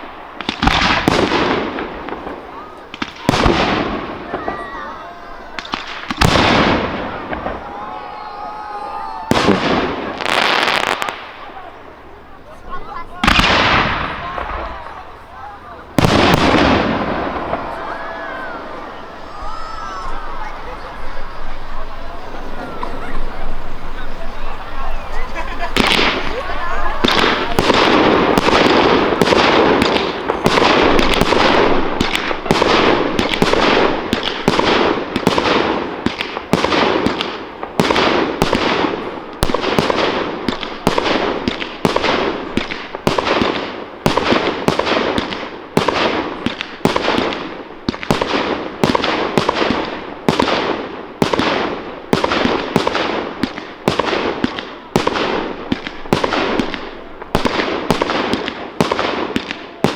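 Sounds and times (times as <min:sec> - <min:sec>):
fireworks bursting: 0:00.0 - 0:59.9
fireworks crackle and rumble: 0:00.0 - 0:59.9
loud firework bangs: 0:00.0 - 0:59.9.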